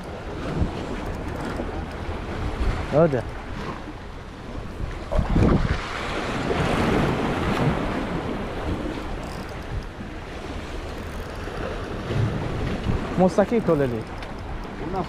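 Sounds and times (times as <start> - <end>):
sea waves washing in: 0.0 - 15.0
wind buffeting microphone: 0.0 - 15.0.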